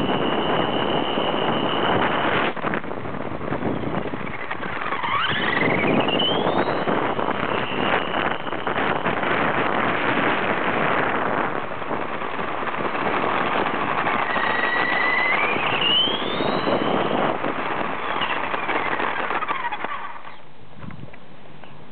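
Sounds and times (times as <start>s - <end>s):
small electric motor whining: 0.0s - 20.5s
tyres rushing on asphalt: 0.0s - 20.5s.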